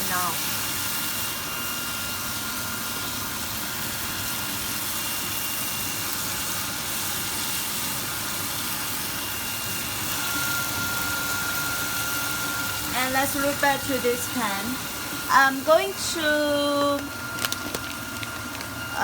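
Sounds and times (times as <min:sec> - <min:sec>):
meat sizzling in hot oil: 0:00.0 - 0:19.0.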